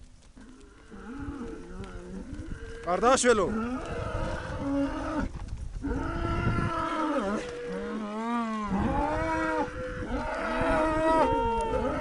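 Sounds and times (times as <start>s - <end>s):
cattle bellowing: 0.4s - 12.0s.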